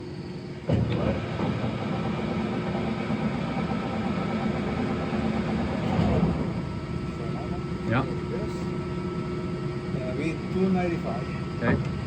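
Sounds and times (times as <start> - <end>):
lathe machine hum: 0.5 - 12.0.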